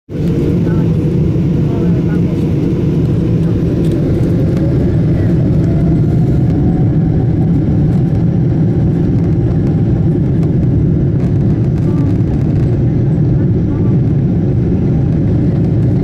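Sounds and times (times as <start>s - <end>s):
jet engine cabin rumble: 0.1s - 16.0s.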